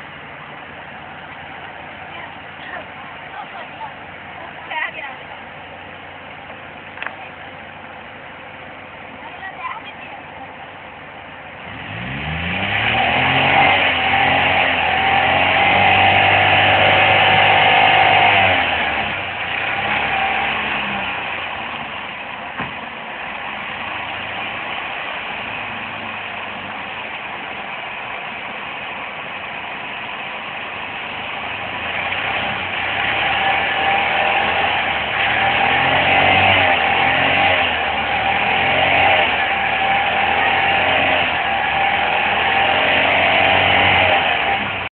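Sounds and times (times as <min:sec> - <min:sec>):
car engine revving and idling: 0:00.0 - 0:44.9.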